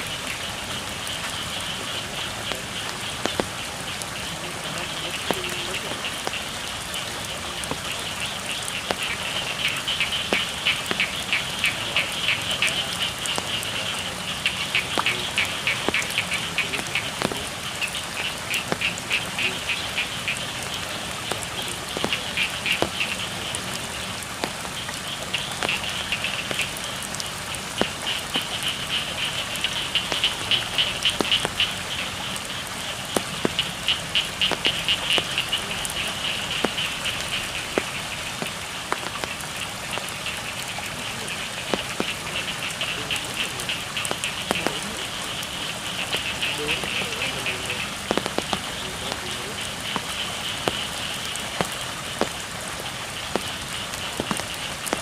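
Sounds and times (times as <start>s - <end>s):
frogs calling: 0.0s - 55.0s
steady rain: 0.0s - 55.0s
water drip clicks: 0.0s - 55.0s.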